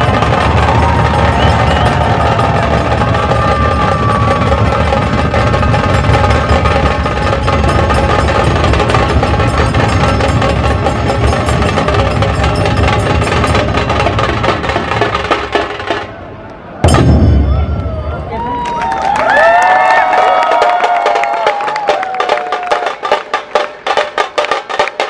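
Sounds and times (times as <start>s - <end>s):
drum ensemble fast beat: 0.0s - 16.1s, 19.3s - 25.0s.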